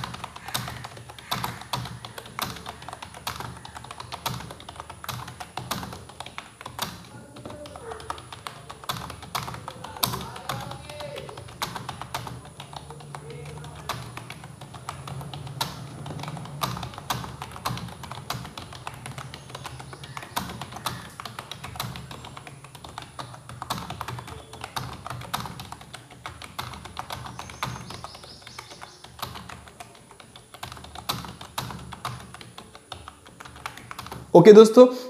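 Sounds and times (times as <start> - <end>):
keyboard keystroke clicks: 0.0 - 34.3.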